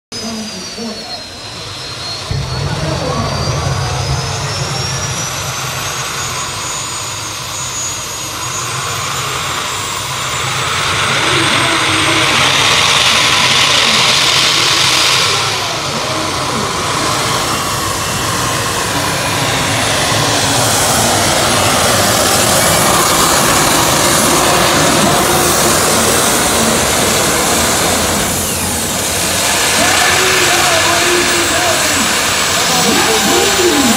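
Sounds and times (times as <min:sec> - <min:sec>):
jet turbine engine roaring: 0:00.1 - 0:33.9.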